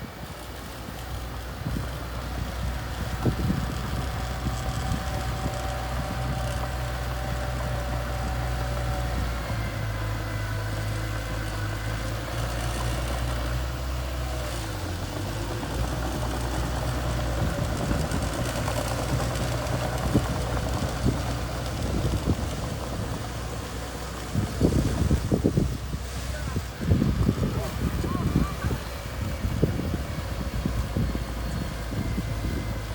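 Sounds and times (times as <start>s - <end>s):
bulldozer engine droning: 0.0s - 32.9s.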